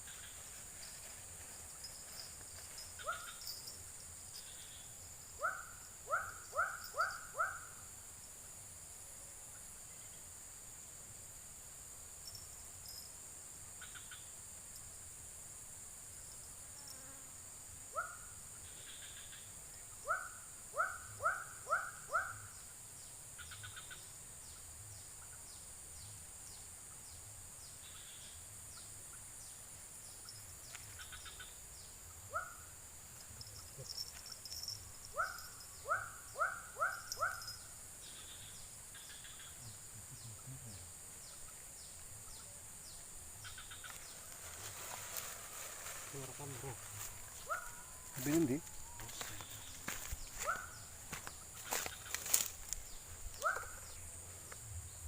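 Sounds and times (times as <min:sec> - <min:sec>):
high cricket trill: 0:00.0 - 0:55.0.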